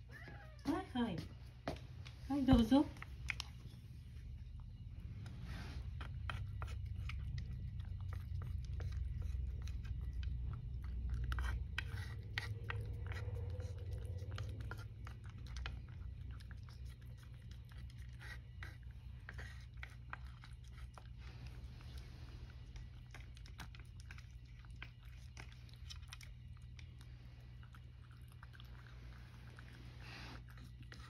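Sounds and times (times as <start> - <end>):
cat chewing dry kibble: 2.9 - 31.0.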